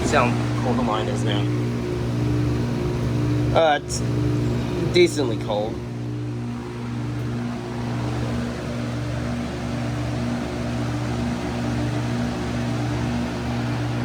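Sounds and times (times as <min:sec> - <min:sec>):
heat pump humming: 0:00.0 - 0:14.0.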